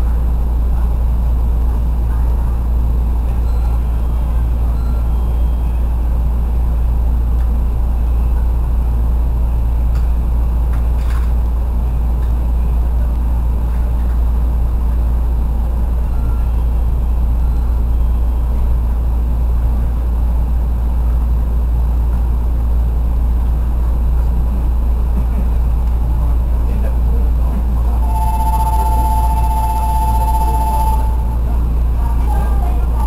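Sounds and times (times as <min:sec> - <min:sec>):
train air-conditioning drone: 0:00.0 - 0:33.0.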